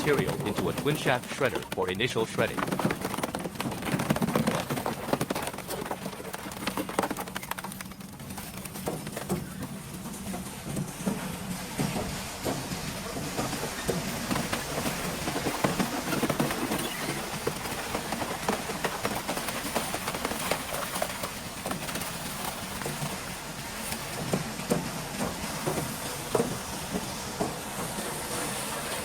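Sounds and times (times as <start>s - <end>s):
metal and plastic crunching: 0.0s - 29.0s
shredder machine running: 0.0s - 29.0s.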